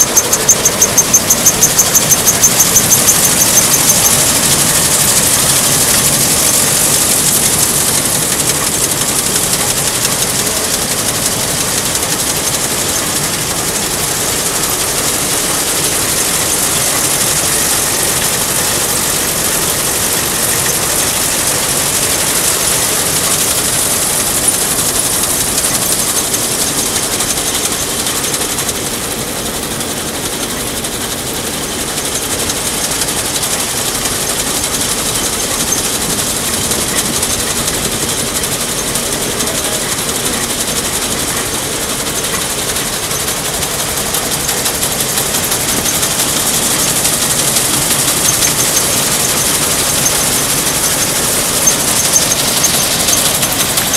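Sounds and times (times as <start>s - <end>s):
combine harvester clatter and hiss: 0.0s - 53.9s.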